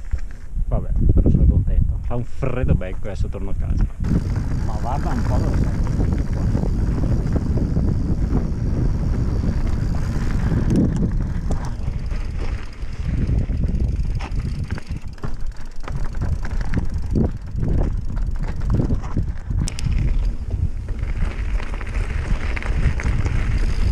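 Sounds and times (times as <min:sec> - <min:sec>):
bike tyres on dirt trail: 0:00.0 - 0:00.6, 0:03.9 - 0:23.9
wind on microphone: 0:00.0 - 0:23.9
bike knocks and rattles: 0:03.9 - 0:23.9.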